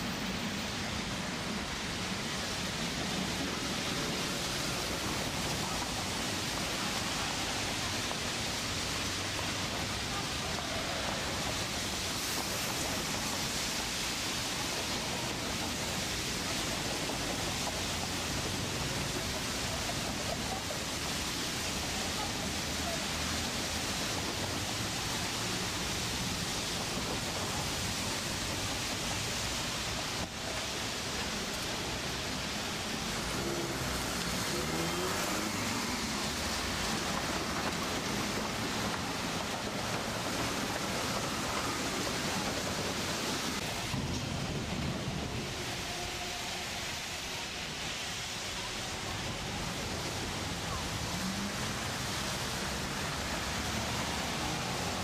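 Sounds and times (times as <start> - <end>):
rain hiss: 0.0 - 55.0
wet street noise: 0.0 - 55.0.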